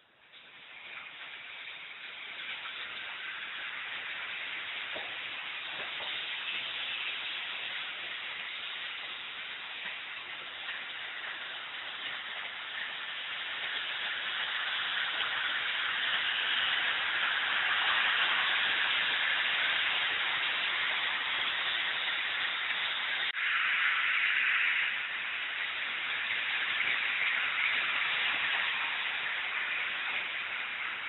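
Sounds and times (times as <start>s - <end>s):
model train rolling hiss: 0.3s - 31.0s.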